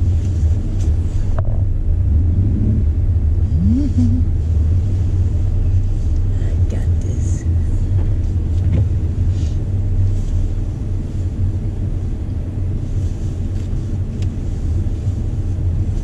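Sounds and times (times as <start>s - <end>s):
car engine rumbling: 0.0s - 16.0s
road noise: 0.0s - 16.0s.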